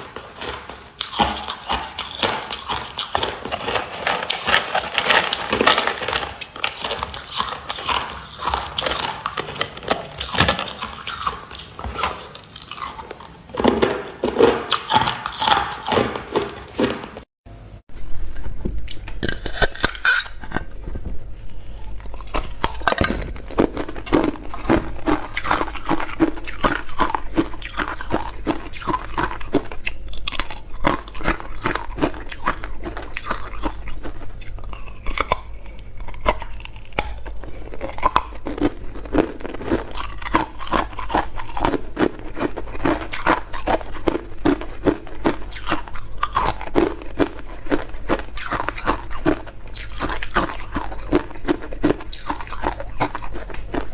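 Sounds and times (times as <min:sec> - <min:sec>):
person crunching ice: 0:00.0 - 0:17.3, 0:17.9 - 0:53.9
rhythmic chewing: 0:00.0 - 0:53.9.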